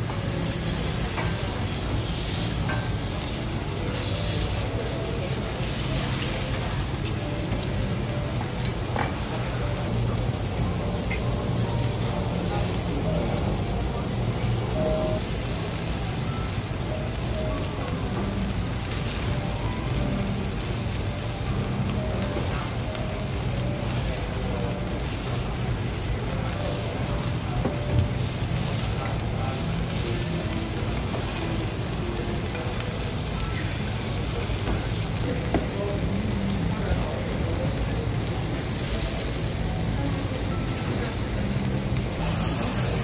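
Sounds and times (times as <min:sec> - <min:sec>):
food sizzling on griddle: 0:00.0 - 0:43.0.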